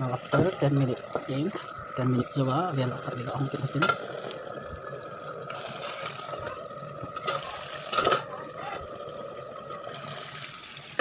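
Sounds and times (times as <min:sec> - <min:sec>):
curry bubbling in a wok: 0:00.0 - 0:11.0.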